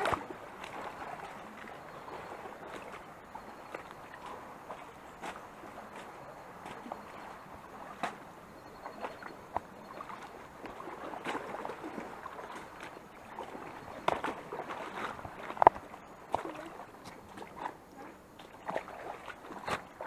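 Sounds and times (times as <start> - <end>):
water sloshing around wading legs: 0.0 - 20.0.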